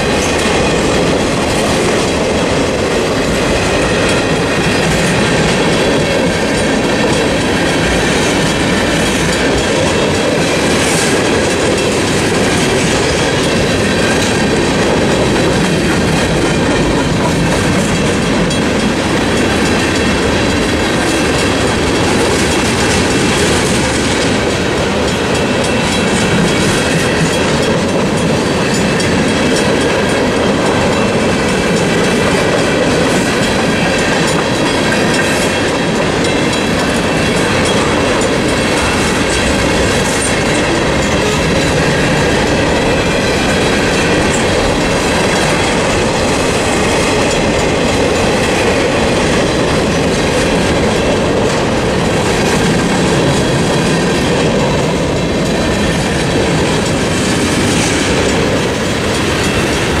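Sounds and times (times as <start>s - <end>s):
crossing bell ringing: 0.0s - 60.0s
freight train wheels clacking: 0.0s - 60.0s
train rumble: 0.0s - 60.0s.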